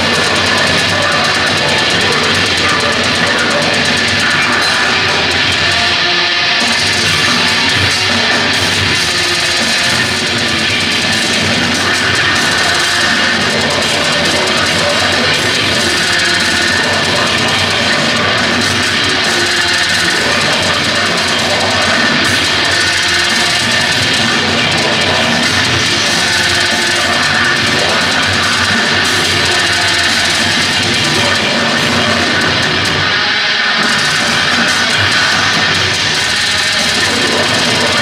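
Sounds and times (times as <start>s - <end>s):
death metal band playing live: 0.0s - 38.0s.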